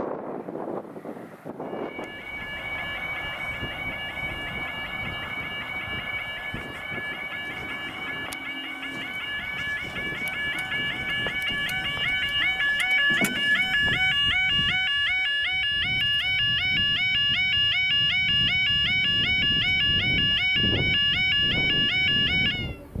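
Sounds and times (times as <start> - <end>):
level crossing alarm warbling: 1.6 - 22.9.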